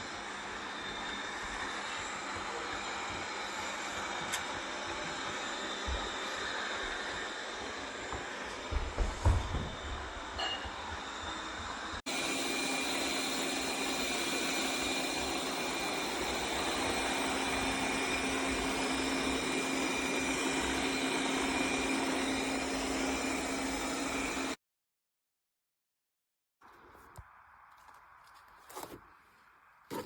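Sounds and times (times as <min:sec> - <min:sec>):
robot vacuum cleaner whirring: 0:00.0 - 0:24.6.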